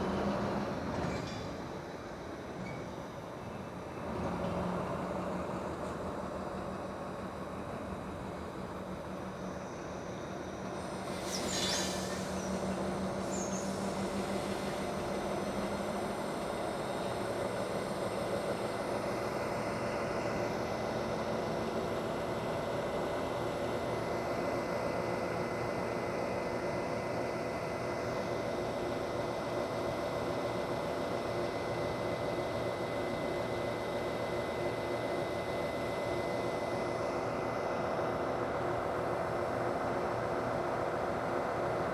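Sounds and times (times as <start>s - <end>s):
diesel locomotive running: 0.0s - 41.9s.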